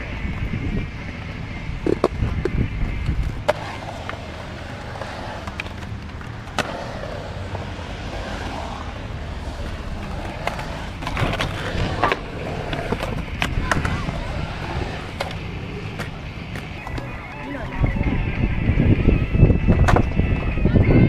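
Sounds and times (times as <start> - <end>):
skateboard wheels rolling on concrete: 0.0 - 21.0
skateboard clacks: 1.1 - 17.4, 19.6 - 20.9.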